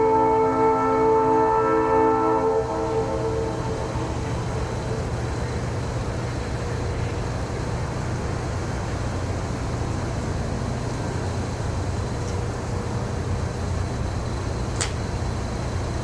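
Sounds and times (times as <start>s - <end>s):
diesel locomotive rumble and hiss: 0.0s - 16.0s.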